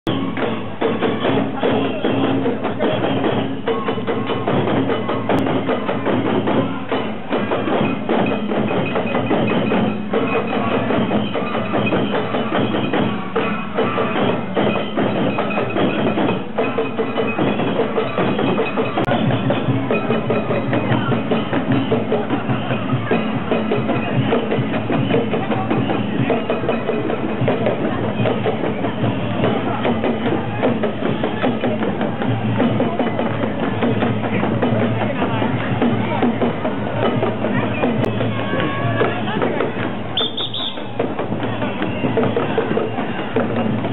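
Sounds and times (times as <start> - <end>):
fan drums beating fast: 0.0 - 43.9
bells ringing: 0.1 - 43.9.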